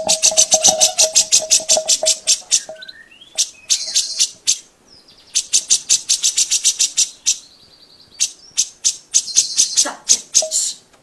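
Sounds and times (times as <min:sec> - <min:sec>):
bird singing high chattering notes: 0:00.0 - 0:10.8.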